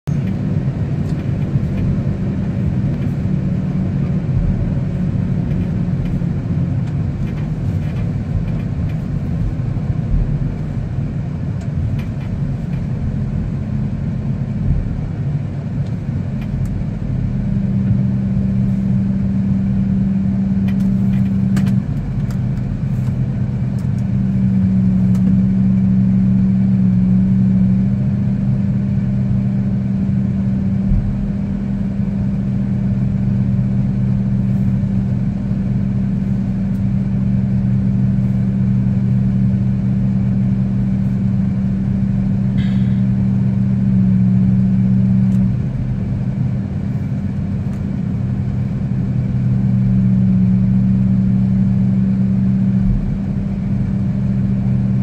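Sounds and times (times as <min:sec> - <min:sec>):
tug engine running: 0:00.0 - 0:55.0.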